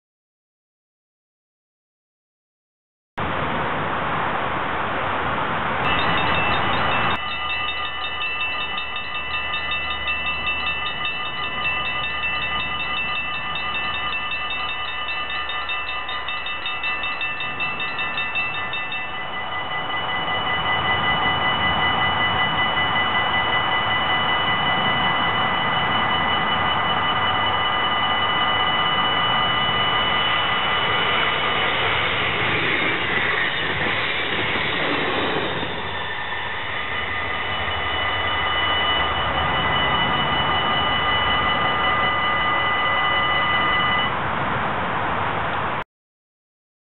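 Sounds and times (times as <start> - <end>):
approaching train rush: 3.2 - 45.8
level-crossing bells ringing: 5.9 - 44.2.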